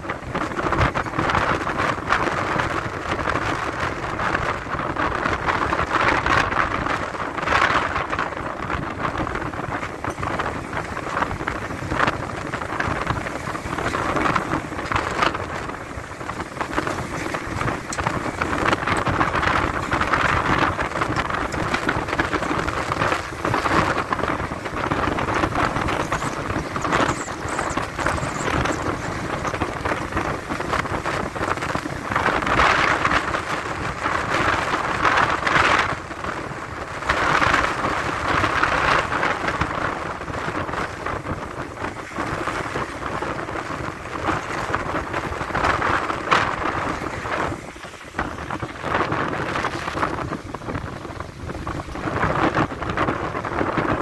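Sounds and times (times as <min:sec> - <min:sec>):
wind gusts: 0:00.0 - 0:54.0.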